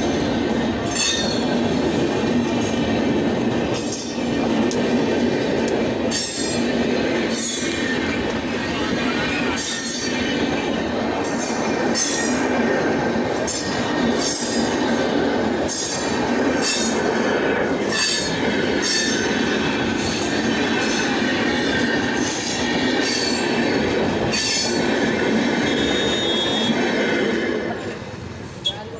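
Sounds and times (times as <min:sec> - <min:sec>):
train rumbling on rails: 0:00.0 - 0:28.9.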